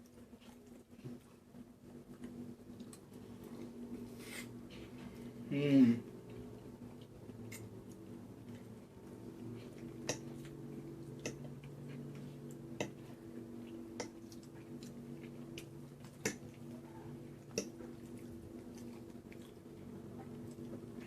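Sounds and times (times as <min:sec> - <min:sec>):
chewing with mouth clicks: 0:00.0 - 0:03.8, 0:06.2 - 0:21.0
steady low hum: 0:00.0 - 0:21.0.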